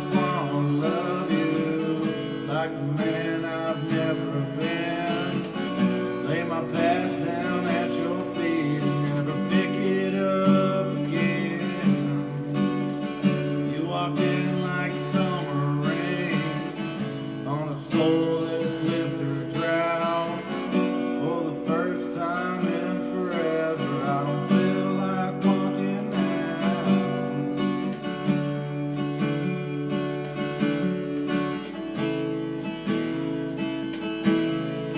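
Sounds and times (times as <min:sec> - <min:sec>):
acoustic guitar playing: 0:00.0 - 0:34.9.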